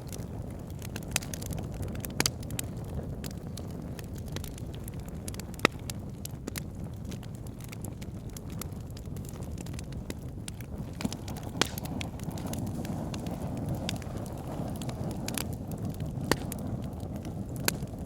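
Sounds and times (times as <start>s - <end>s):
fire burning with crackles: 0.0s - 18.0s.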